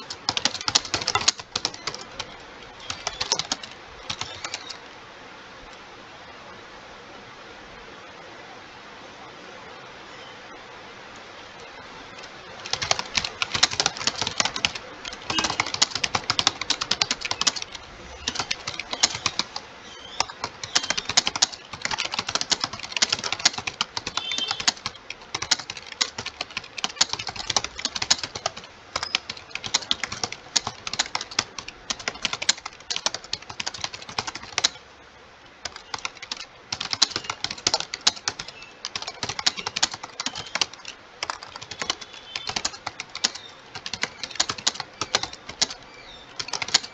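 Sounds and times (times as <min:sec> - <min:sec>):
fast typing on keyboard: 0:00.0 - 0:04.8, 0:12.1 - 0:34.8, 0:35.6 - 0:46.9.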